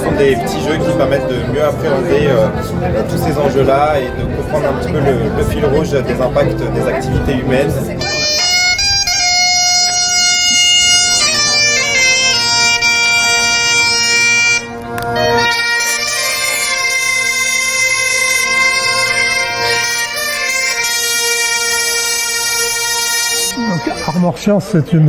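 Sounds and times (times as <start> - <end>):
bombardes and bagpipes playing: 0.0 - 25.0.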